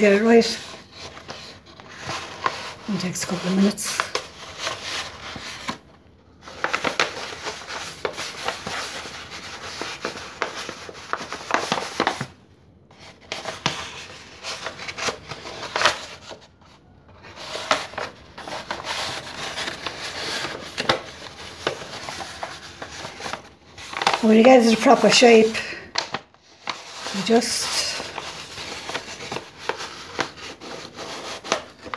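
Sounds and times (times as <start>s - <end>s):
stiff paper rustling and crackling: 0.0s - 31.9s.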